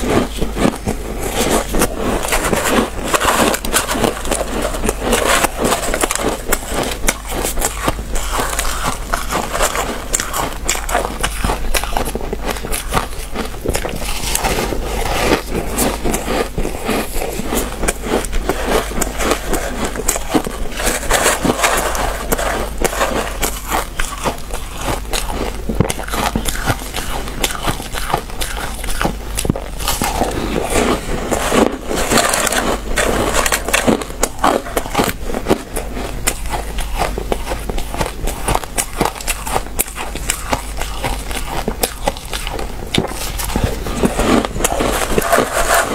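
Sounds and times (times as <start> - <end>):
crunching shaved ice: 0.0 - 45.9.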